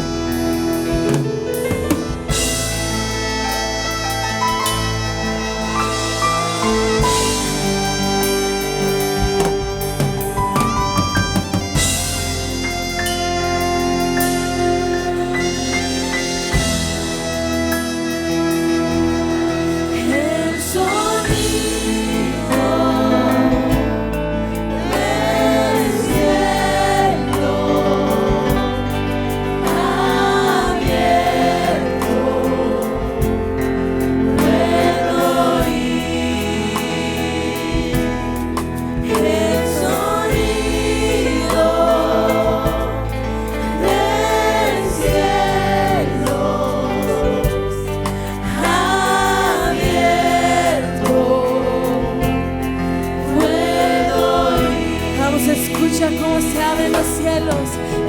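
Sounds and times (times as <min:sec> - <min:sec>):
keyboard chords and bass: 0:00.0 - 0:58.0
voices singing together: 0:00.0 - 0:58.0.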